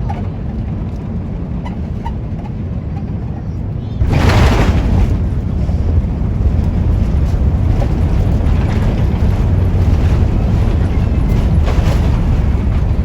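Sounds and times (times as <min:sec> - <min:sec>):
airliner cabin low rumble: 0:00.0 - 0:13.0.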